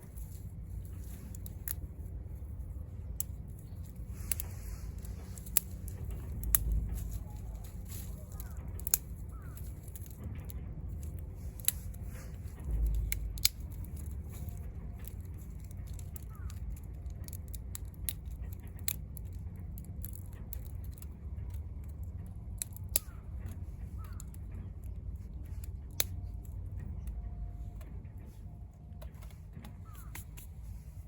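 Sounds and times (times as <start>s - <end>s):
wood fire crackling and popping: 0.0s - 27.2s
low steady rumble: 0.0s - 31.0s.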